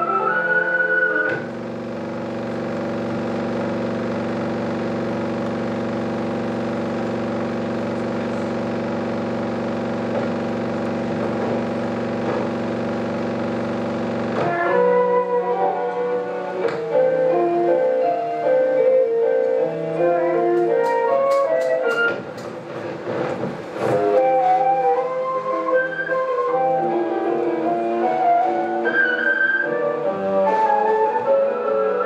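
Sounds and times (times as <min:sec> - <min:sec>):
music: 0:00.0 - 0:32.0.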